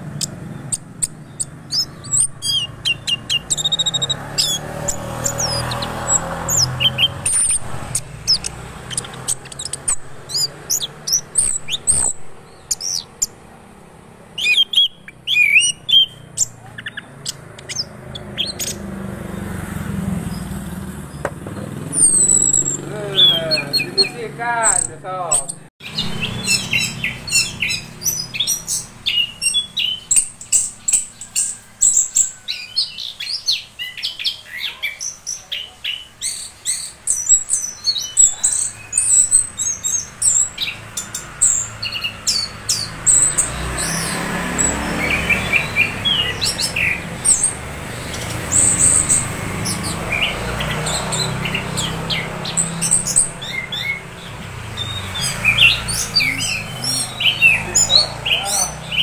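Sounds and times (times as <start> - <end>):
bird chirping song: 0.0 - 59.0.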